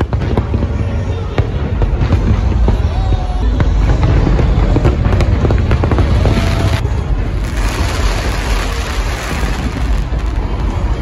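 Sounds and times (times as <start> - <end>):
fireworks cracks and bangs: 0.0 - 11.0
rumble of fireworks bursts: 0.0 - 11.0.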